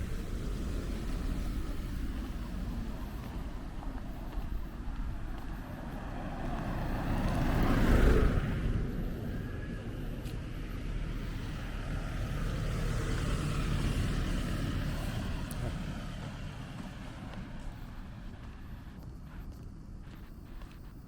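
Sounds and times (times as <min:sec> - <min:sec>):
vehicle passing on street: 0:00.0 - 0:21.0.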